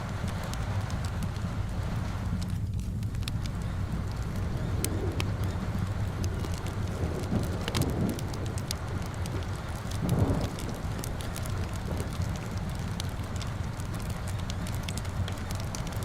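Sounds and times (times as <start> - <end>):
low rumble: 0.0 - 16.0
steady rain: 0.0 - 16.0
wood fire crackling and popping: 0.0 - 16.0.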